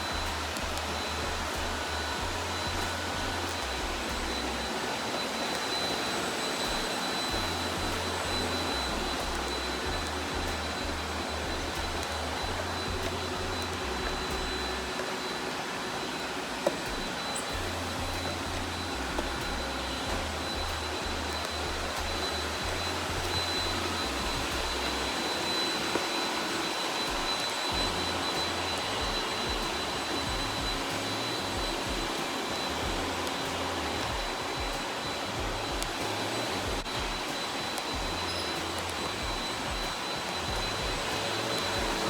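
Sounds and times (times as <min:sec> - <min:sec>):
robot vacuum cleaner whirring: 0:00.0 - 0:42.0.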